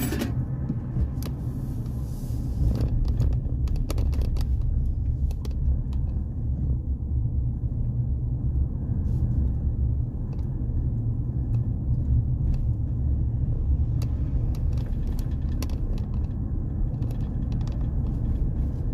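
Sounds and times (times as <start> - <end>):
road vehicle rumble: 0.0 - 18.9.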